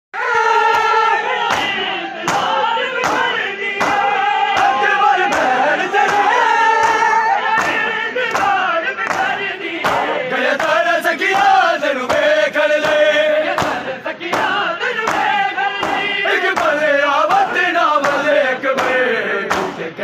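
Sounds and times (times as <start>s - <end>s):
men chanting in unison: 0.2s - 20.0s
hands slapping chests: 0.7s - 4.0s, 4.6s - 19.8s.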